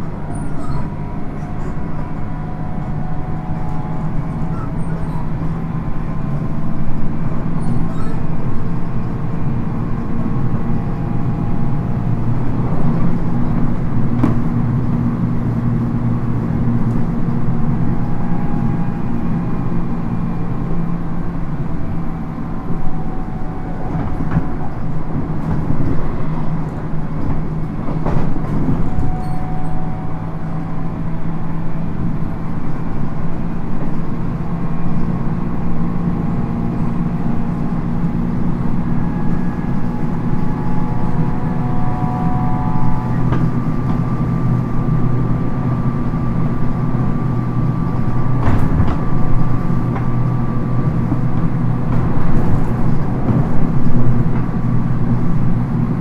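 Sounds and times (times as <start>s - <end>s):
train rumble and hum: 0.0s - 56.0s.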